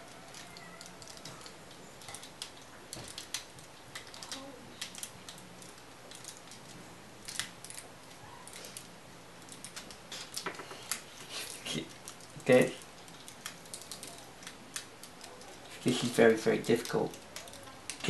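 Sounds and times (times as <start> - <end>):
plastic toy parts clicking: 0.0 - 18.0.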